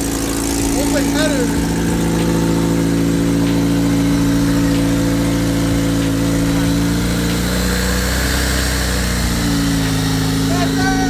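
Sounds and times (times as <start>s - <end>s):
car engine idling without exhaust: 0.0s - 11.0s.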